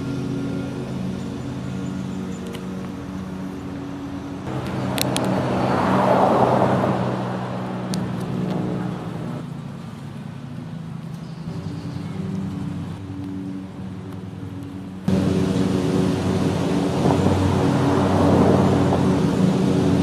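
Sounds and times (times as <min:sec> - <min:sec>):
low engine hum: 0:00.0 - 0:20.0
vehicle passing: 0:00.0 - 0:20.0.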